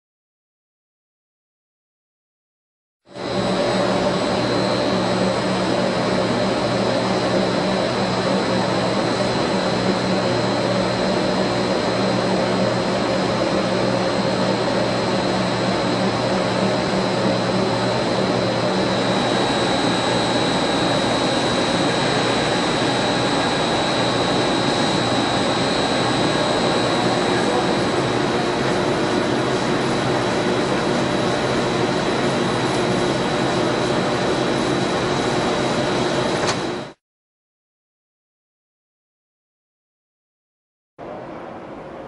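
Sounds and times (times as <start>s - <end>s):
drilling machine whir and whine: 3.1s - 37.0s.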